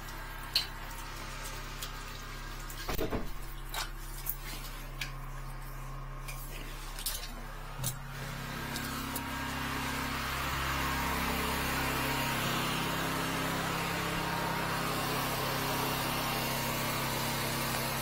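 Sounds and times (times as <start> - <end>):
drain jetting machine humming: 0.0 - 18.0.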